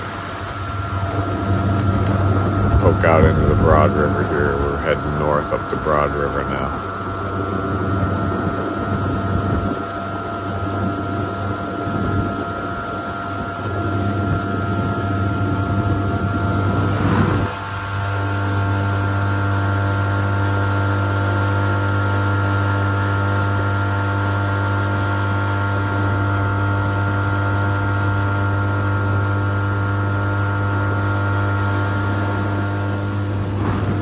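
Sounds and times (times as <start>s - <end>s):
outboard motor running: 0.0s - 34.0s.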